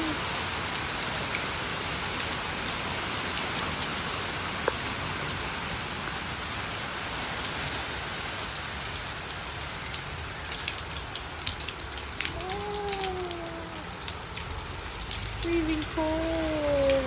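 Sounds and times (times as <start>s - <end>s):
hail hitting surfaces: 0.0s - 17.0s.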